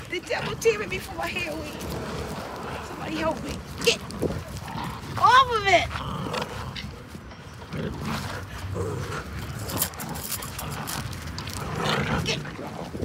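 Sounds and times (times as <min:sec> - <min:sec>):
crackling rustles: 0:00.0 - 0:13.0
dogs growling: 0:00.0 - 0:13.0.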